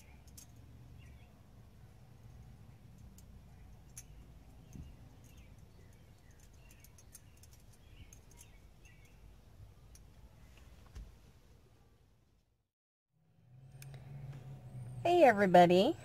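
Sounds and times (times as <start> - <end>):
low background hum: 0.0 - 12.6, 13.2 - 16.0.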